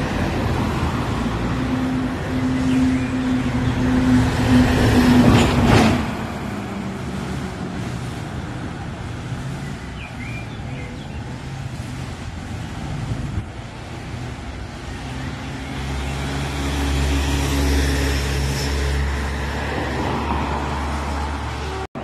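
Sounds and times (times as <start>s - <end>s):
quieter traffic: 0.0s - 22.0s.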